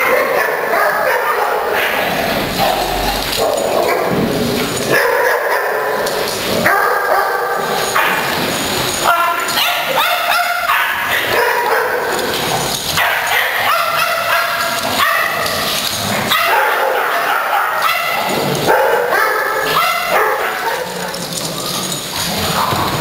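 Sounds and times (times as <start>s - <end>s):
dogs barking: 0.0s - 23.0s.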